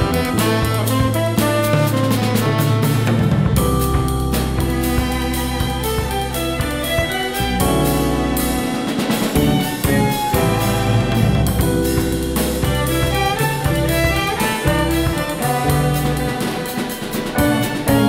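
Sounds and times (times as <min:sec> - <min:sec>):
drum kit beat: 0:00.0 - 0:18.0
jazz ensemble with string quartet: 0:00.0 - 0:18.0.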